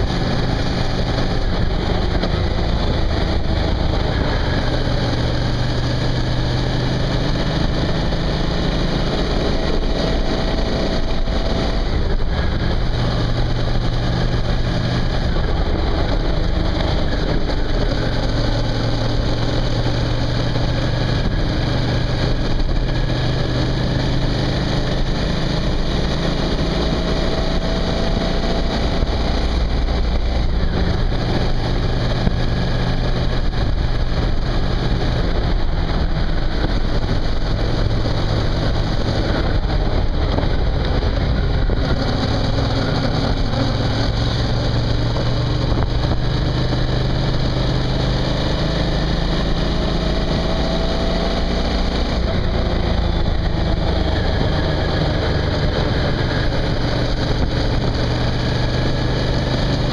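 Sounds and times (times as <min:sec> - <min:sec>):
motorcycle engine: 0:00.0 - 0:59.9
road and wind noise: 0:00.0 - 0:59.9.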